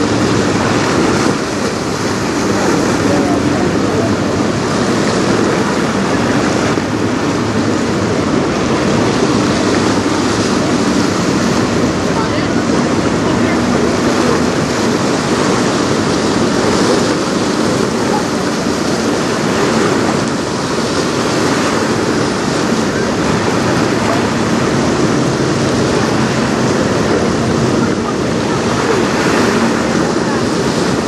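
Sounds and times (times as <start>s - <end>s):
choppy water splashing: 0.0s - 31.0s
strong wind on microphone: 0.0s - 31.0s.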